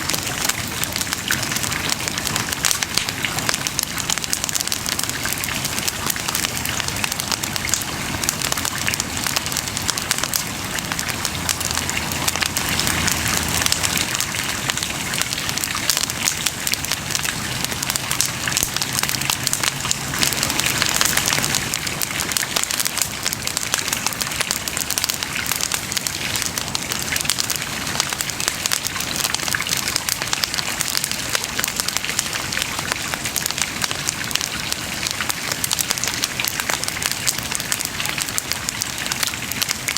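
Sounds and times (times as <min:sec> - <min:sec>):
bonfire crackling and popping: 0:00.0 - 0:39.9
soft hiss of burning: 0:00.0 - 0:39.9.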